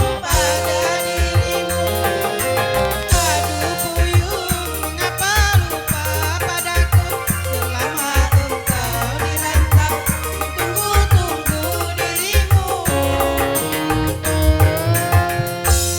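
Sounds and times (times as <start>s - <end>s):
hand drum and bass beat: 0.0s - 15.9s
wavering keyboard melody: 0.0s - 15.9s.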